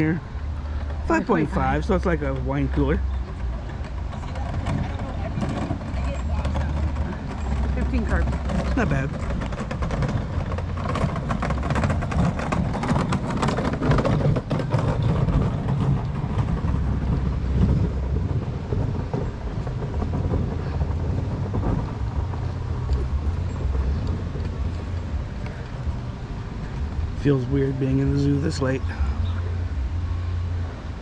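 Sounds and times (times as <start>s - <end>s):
steady low rumble: 0.0s - 31.0s
wheels rattling on concrete: 0.0s - 31.0s.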